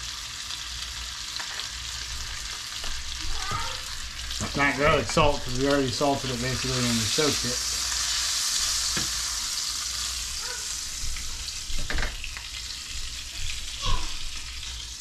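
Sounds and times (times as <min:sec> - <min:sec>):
fish sizzling in a skillet: 0:00.0 - 0:15.0.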